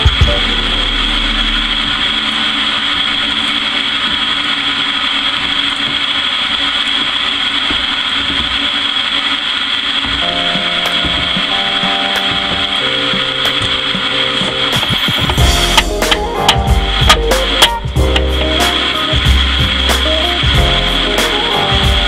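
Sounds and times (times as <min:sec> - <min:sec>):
high whine: 0:00.0 - 0:22.0
machine hum: 0:00.0 - 0:22.0.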